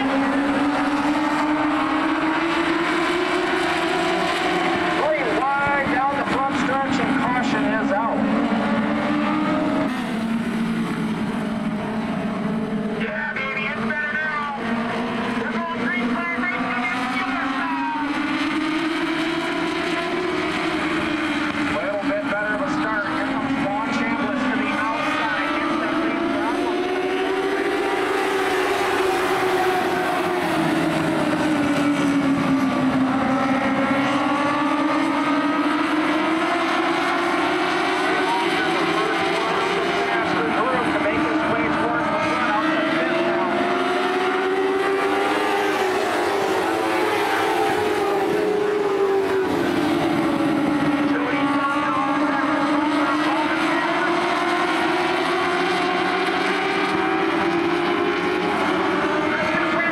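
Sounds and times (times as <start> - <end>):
race car engines: 0.0 - 59.9.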